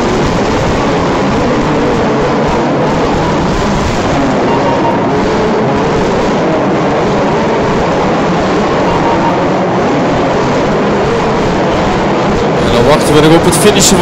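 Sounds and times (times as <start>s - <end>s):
race track din: 0.0s - 14.0s.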